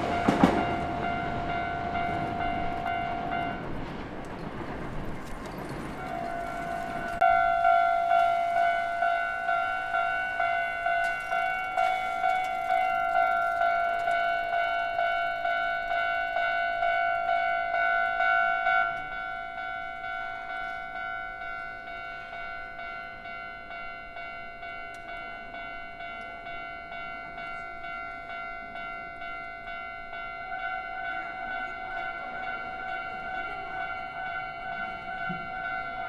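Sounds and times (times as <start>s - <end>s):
level-crossing warning bells: 0.0s - 36.0s.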